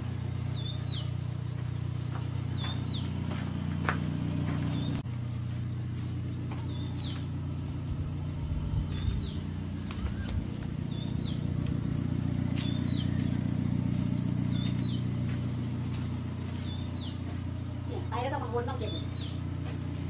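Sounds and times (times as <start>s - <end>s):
bird chirping: 0.0s - 3.4s, 4.5s - 5.0s, 6.3s - 20.0s
tractor diesel engine idling: 0.0s - 20.0s.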